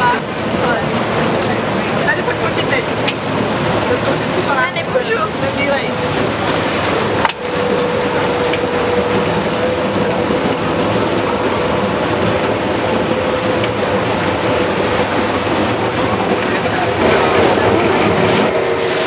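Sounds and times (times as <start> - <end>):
boat engine humming: 0.0 - 19.0
water rushing along hull: 0.0 - 19.0.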